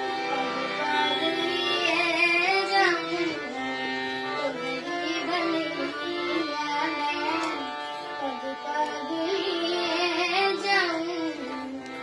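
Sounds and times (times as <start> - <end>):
girl singing: 0.0 - 11.9
instrumental accompaniment: 0.0 - 12.0.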